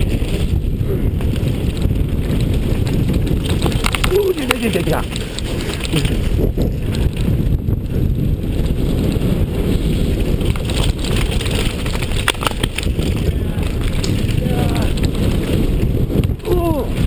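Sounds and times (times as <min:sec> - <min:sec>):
bike and stones rattling: 0:00.0 - 0:17.0
bike tyres rolling on gravel: 0:00.0 - 0:17.0
wind buffeting microphone: 0:00.0 - 0:17.0.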